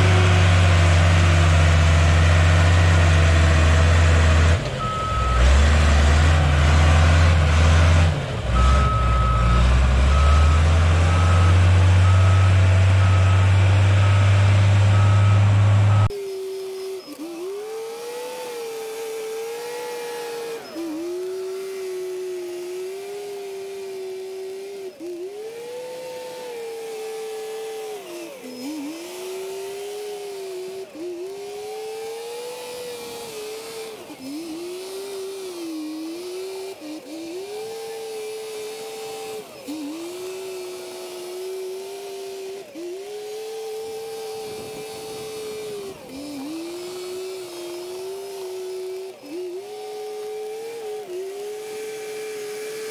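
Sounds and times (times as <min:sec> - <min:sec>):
diesel engine under changing load: 0:00.0 - 0:52.9.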